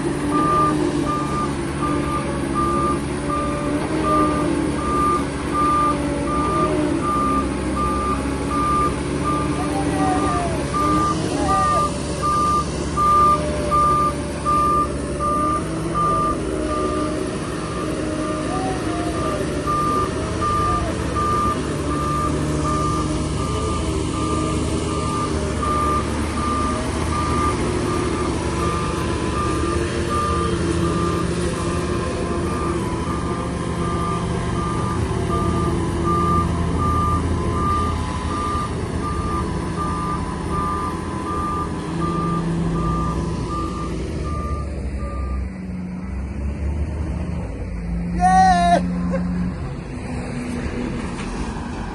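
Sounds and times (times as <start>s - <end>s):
diesel engines running: 0.0s - 51.9s
reversing alarm beeping: 0.3s - 45.5s.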